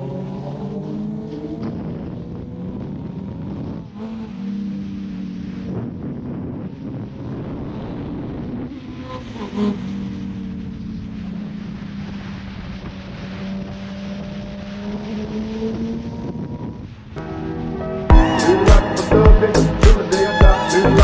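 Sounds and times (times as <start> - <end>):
wind rushing: 0.0 - 21.0.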